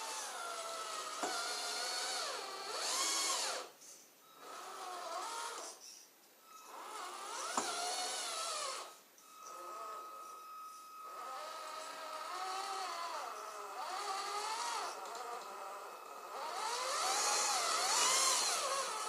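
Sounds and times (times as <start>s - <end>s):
small electric motor whining: 0.0s - 3.7s, 4.3s - 19.0s.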